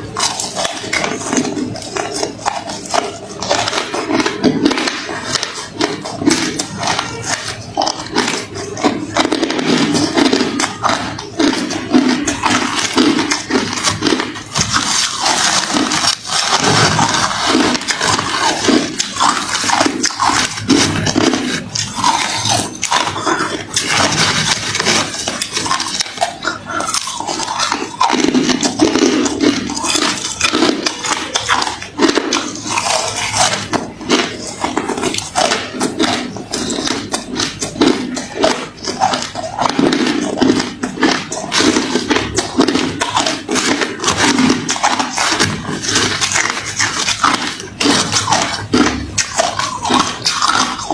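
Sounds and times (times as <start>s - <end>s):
crunching and chewing ice: 0.0s - 50.9s.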